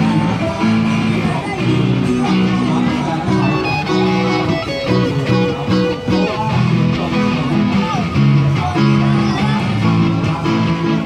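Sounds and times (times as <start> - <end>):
guitar strumming chords: 0.0 - 11.0
held melody line: 0.0 - 11.0.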